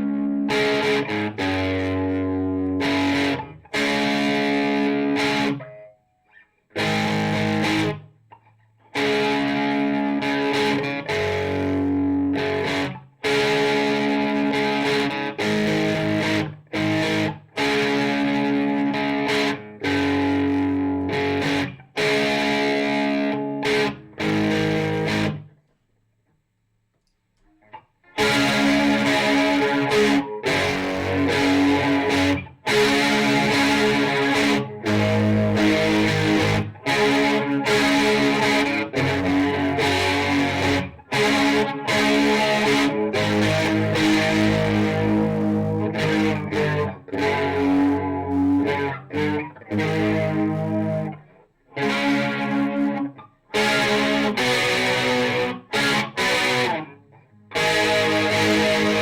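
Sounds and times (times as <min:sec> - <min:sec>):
electric guitar chords: 0:00.0 - 0:25.6, 0:27.5 - 0:59.0.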